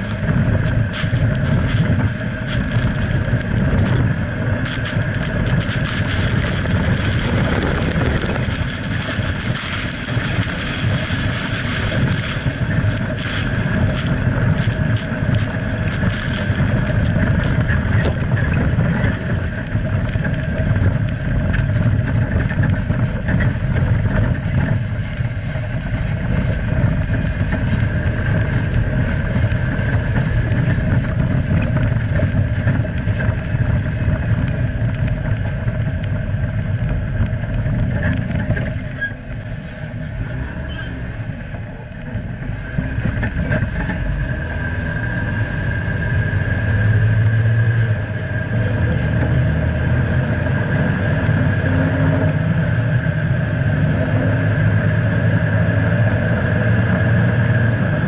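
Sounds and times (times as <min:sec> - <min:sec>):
vehicle rumbling off-road: 0:00.0 - 0:58.0
wind on microphone: 0:00.0 - 0:58.0.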